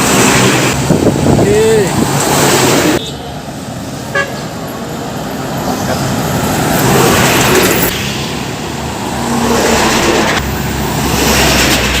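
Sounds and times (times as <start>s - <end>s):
heavy truck passing: 0.0s - 12.0s.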